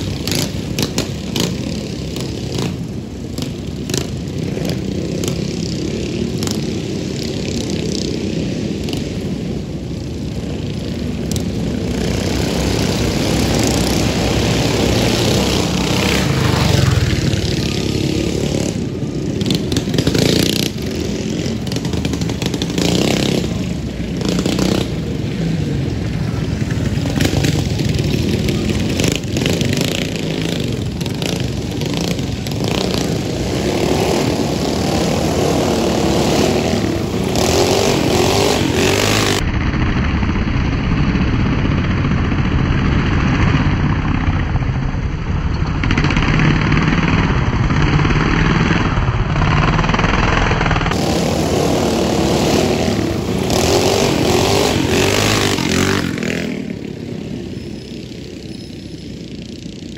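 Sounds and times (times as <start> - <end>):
drone of bike engines: 0.0 - 59.9
mini bikes revving past: 0.0 - 59.9.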